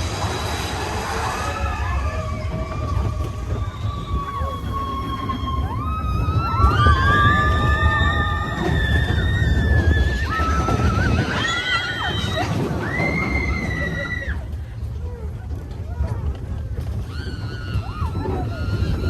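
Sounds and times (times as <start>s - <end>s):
low train rumble: 0.0s - 19.0s.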